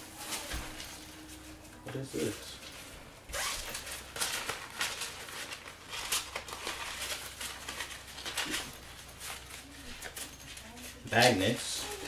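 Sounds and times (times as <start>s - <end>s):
plastic packaging crinkling: 0.1s - 12.0s.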